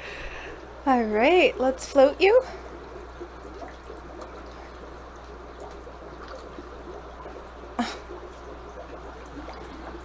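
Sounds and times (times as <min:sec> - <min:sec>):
water trickling into aquarium: 0:00.0 - 0:10.0.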